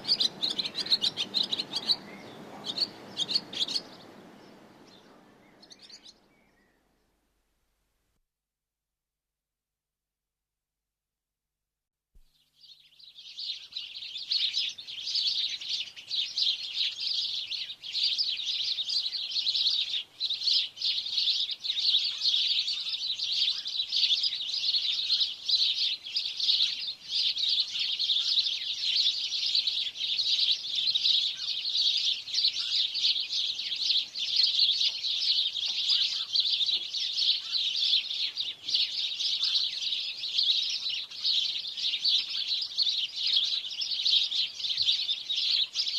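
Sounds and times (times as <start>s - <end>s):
chorus of small birds chirping: 0.0s - 7.0s, 12.3s - 45.9s.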